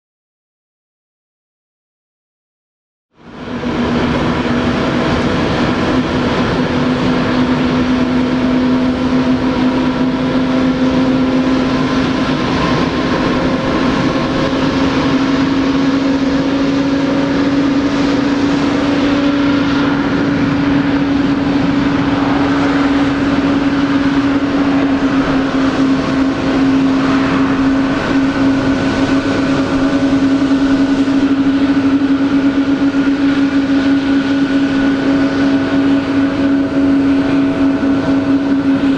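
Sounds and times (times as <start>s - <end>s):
jet engines running: 3.2s - 38.9s.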